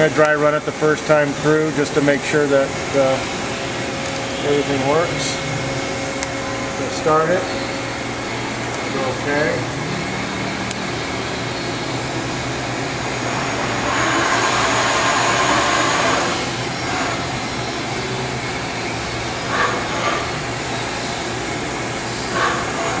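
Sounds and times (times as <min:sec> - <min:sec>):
thin high whine: 0:01.4 - 0:23.0
machine mechanical whir: 0:01.6 - 0:23.0.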